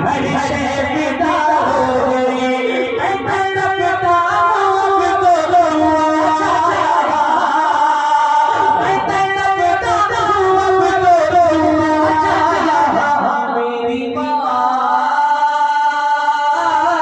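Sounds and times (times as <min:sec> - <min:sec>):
man singing: 0:00.0 - 0:17.0.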